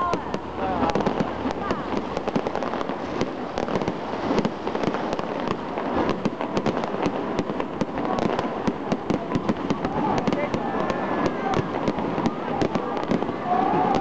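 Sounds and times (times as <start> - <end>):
fireworks bangs and crackle: 0.0 - 14.0.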